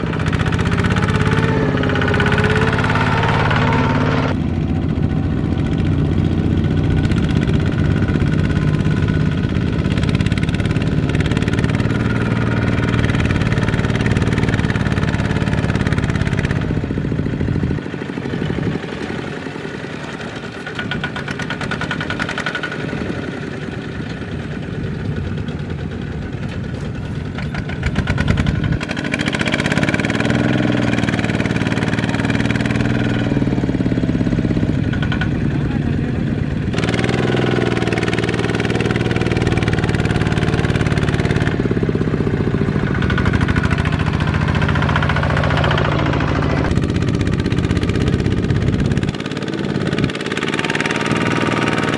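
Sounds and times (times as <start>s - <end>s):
diesel tractor engines running: 0.0s - 51.9s.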